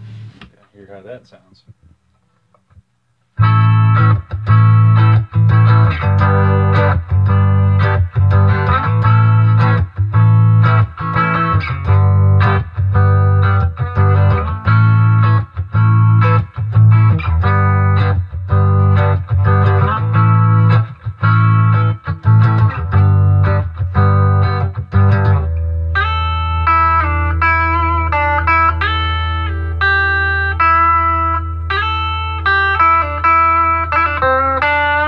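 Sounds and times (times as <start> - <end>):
electric guitar strumming chords: 3.4 - 35.0.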